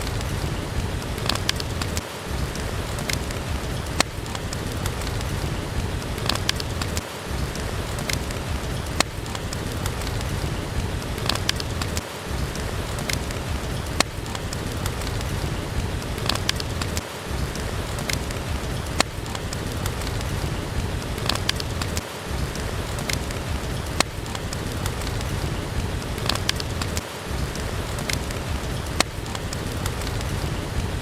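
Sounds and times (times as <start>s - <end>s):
steady rain: 0.0s - 31.0s
wood fire crackling and popping: 0.0s - 31.0s.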